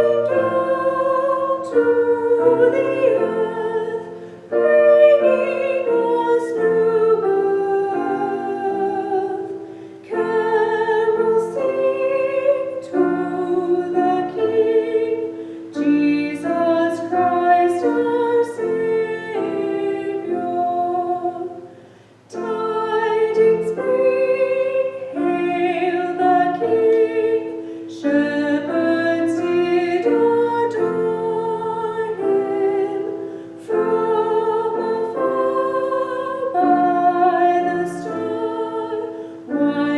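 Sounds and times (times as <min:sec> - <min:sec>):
person singing a hymn: 0:00.0 - 0:39.9
piano accompaniment: 0:00.0 - 0:39.9.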